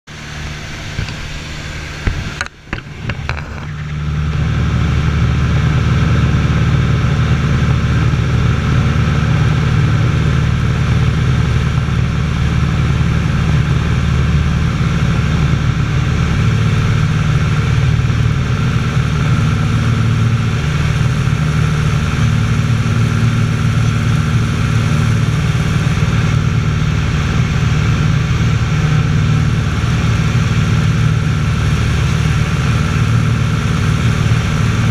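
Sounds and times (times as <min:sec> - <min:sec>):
light aircraft engine droning: 0:00.1 - 0:34.9.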